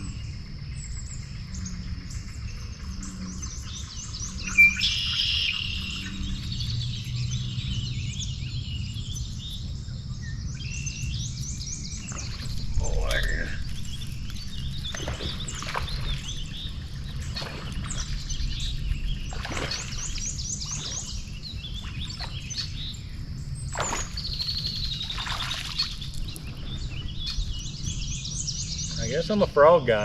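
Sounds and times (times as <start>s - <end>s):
birds singing and calling: 0.0s - 30.0s
steady low rumble: 0.0s - 30.0s.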